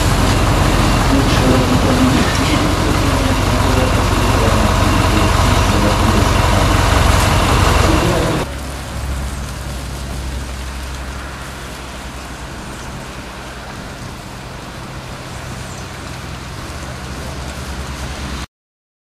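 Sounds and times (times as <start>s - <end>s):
steady hiss: 0.0s - 18.5s
train engine humming: 0.0s - 18.5s.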